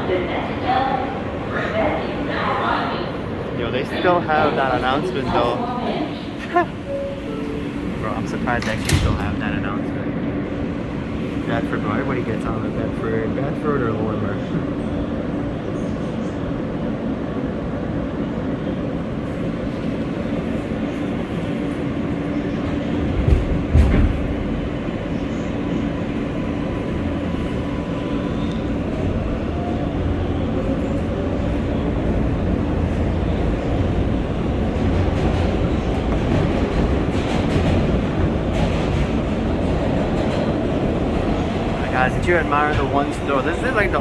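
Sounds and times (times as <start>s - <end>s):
subway train wheels rumbling: 0.0s - 44.0s.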